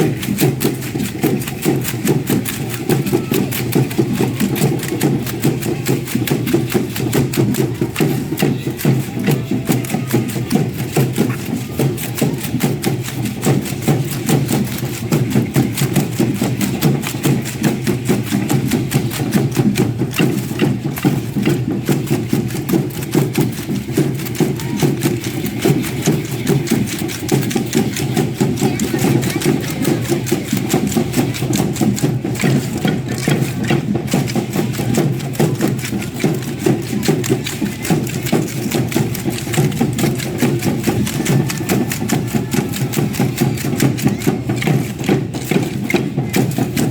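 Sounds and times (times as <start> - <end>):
low drumming: 0.0 - 46.9
rhythmic rattle clatter: 0.0 - 46.9.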